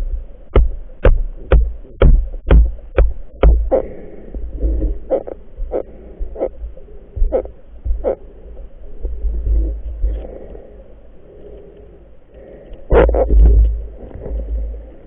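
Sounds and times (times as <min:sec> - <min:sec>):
low rumble of moving water: 0:00.0 - 0:15.0.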